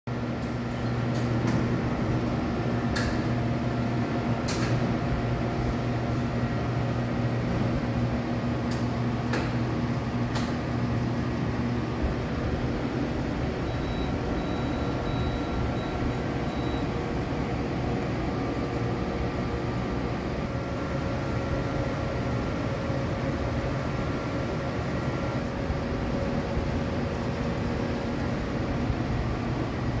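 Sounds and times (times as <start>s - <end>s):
electrical hum: 0.1s - 30.0s
fan noise: 0.1s - 30.0s.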